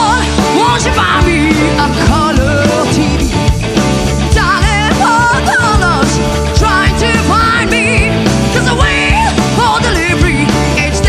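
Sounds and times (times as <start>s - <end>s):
bass: 0.0s - 11.0s
drums: 0.0s - 11.0s
wavering lead guitar line: 0.0s - 11.0s.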